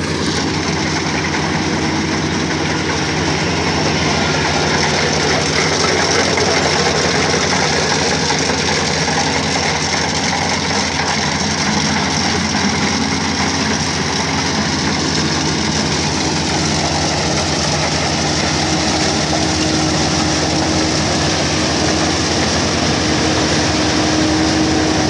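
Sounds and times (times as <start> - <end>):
diesel engine running: 0.0 - 25.0
steady whining tone: 0.0 - 25.0.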